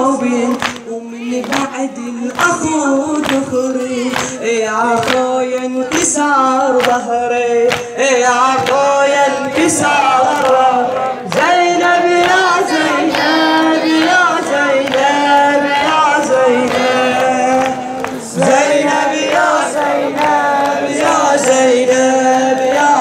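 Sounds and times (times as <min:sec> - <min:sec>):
men chanting mourning lament: 0:00.0 - 0:23.0.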